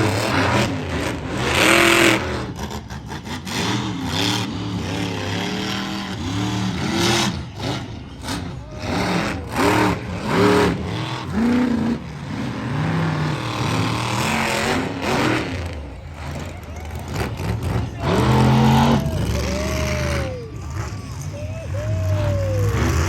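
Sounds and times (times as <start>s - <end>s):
arena noise: 0.0s - 23.0s
engine revving: 0.0s - 23.0s.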